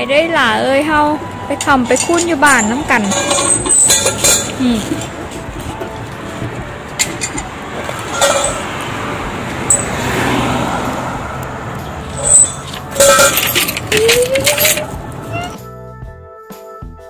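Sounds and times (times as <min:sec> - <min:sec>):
vehicle passing: 0:00.0 - 0:15.6.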